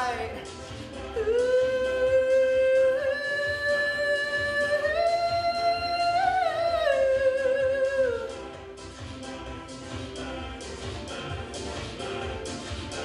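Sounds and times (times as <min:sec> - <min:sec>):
backing track with steady beat: 0:00.0 - 0:13.0.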